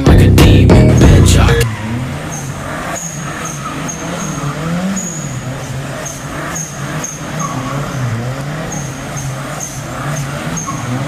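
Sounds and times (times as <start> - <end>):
engine revving: 0.0 - 11.0
tyre squeals: 0.8 - 11.0.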